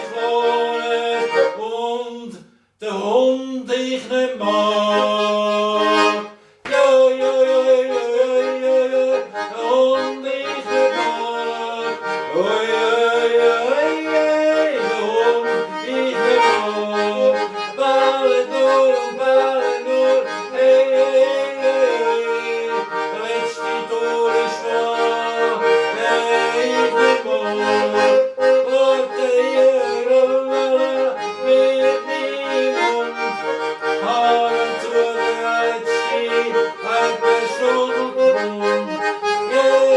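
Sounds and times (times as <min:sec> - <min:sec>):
button accordion folk tune: 0:00.0 - 0:01.8, 0:03.7 - 0:39.9.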